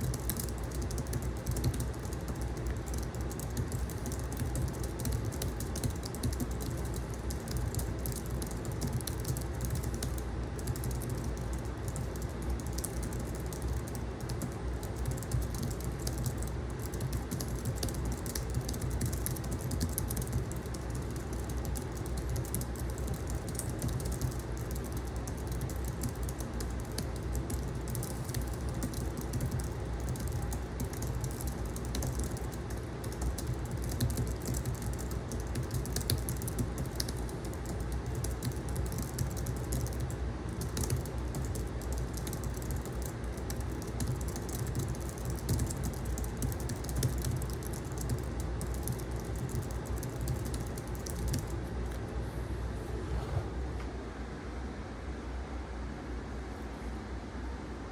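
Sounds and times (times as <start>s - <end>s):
fast typing on keyboard: 0.0s - 52.1s
air conditioner humming: 0.0s - 57.9s.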